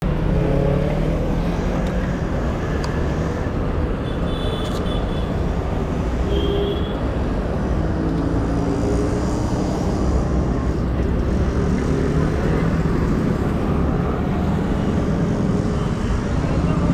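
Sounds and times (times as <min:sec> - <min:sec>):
wind and road noise: 0:00.0 - 0:16.9.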